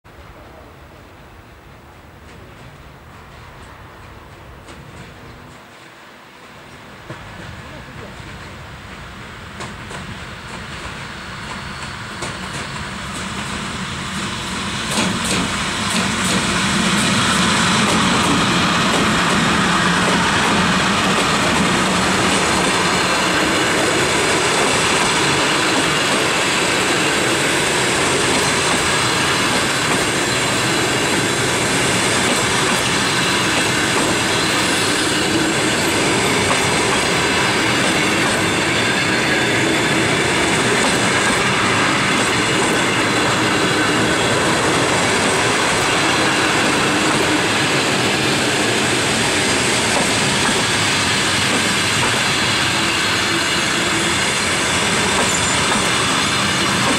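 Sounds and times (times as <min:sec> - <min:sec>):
train wheels rumbling on rails: 0:00.1 - 0:56.9.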